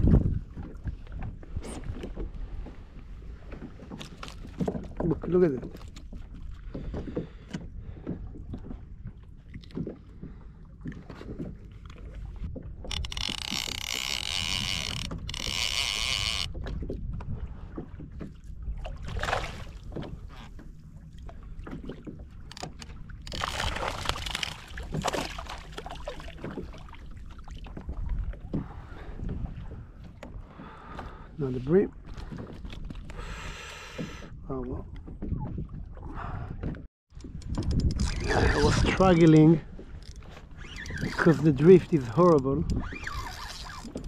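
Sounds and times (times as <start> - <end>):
wind rumbling on microphone: 0.0 - 21.3, 27.6 - 44.0
water lapping and splashing: 0.0 - 44.0.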